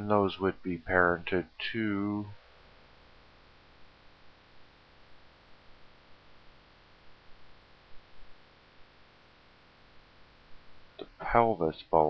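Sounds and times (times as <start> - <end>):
microphone hiss and hum: 0.0 - 12.0.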